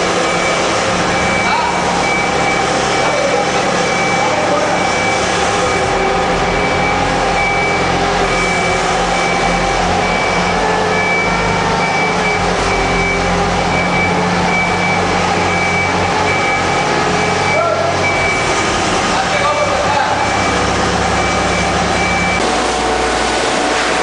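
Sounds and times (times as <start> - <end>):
heavy diesel machinery running: 0.0 - 24.0
reversing alarm beeping: 0.0 - 24.0.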